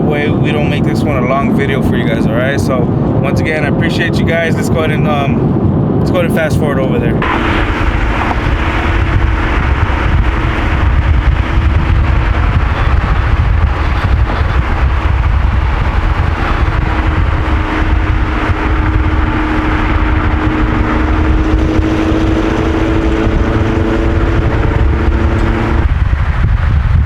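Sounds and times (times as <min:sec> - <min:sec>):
car engine drone: 0:00.0 - 0:27.0
road noise rumble: 0:00.0 - 0:27.0.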